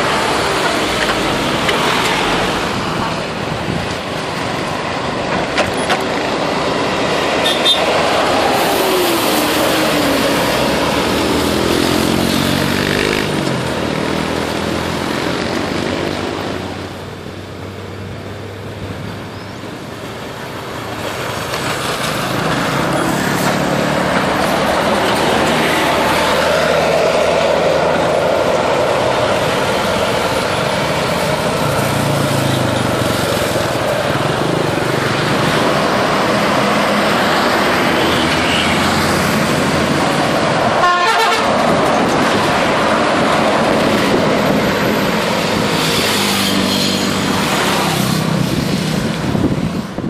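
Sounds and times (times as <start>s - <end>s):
bus passing: 0.0s - 50.0s
cars passing: 0.0s - 50.0s
motorcycles passing: 0.0s - 50.0s.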